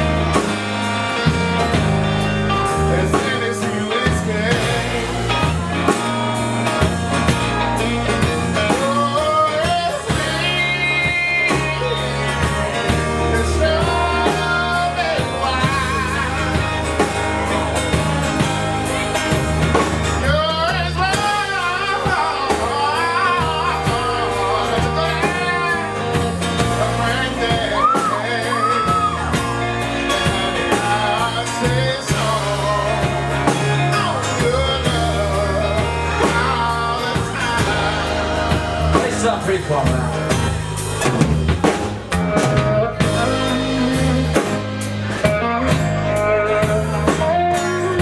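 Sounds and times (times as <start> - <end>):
guitar with bent notes: 0.0 - 48.0
live band playing country ballad: 0.0 - 48.0
person singing: 2.5 - 40.4, 42.1 - 48.0.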